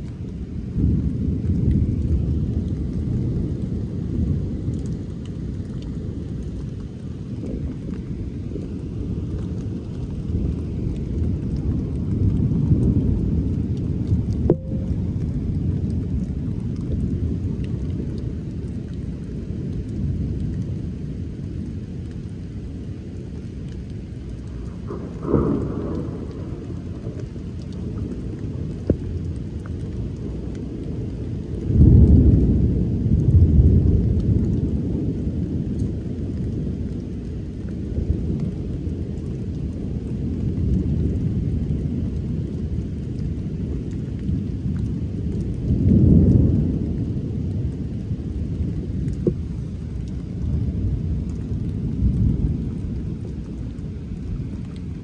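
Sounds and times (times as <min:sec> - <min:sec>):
rolling thunder: 0:00.0 - 0:21.2, 0:24.4 - 0:55.0
steady rain: 0:00.0 - 0:55.0.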